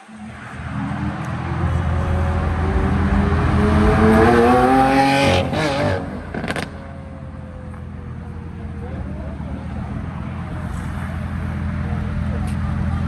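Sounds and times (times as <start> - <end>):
car accelerating hard: 0.2 - 13.0.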